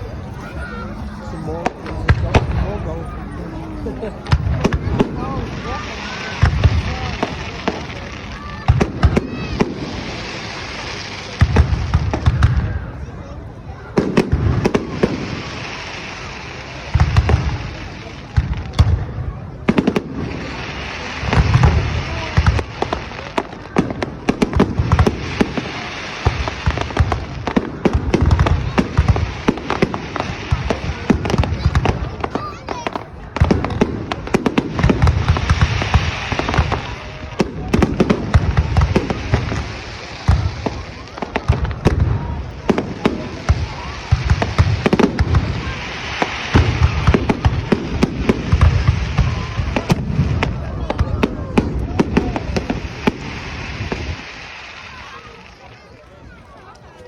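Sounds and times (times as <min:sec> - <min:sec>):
fireworks booming: 0:00.0 - 0:55.8
continuous hiss: 0:00.0 - 0:57.0
fireworks cracking: 0:00.0 - 0:57.0.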